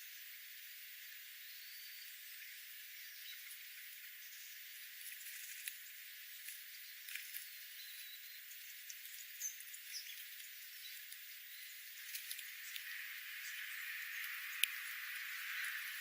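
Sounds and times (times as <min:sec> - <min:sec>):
faint steady hiss: 0:00.0 - 0:16.0
small birds chirping: 0:01.4 - 0:16.0.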